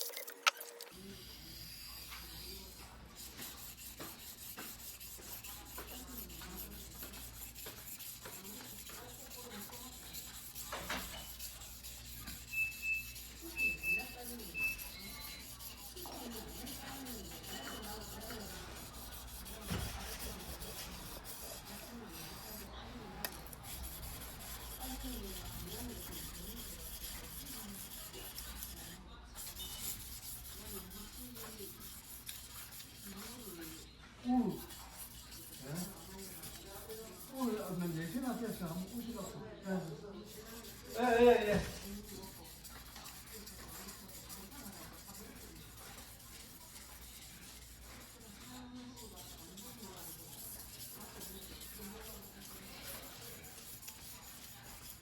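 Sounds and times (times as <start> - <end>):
blade rubbing on whetstone: 1.0 - 55.0.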